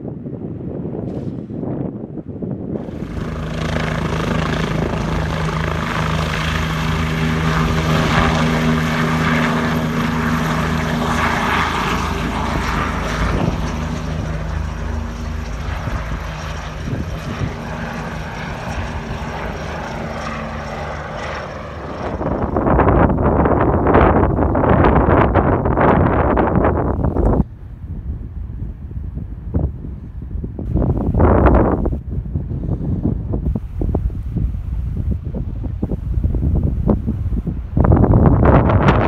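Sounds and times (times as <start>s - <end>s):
helicopter flying: 0.0s - 39.0s.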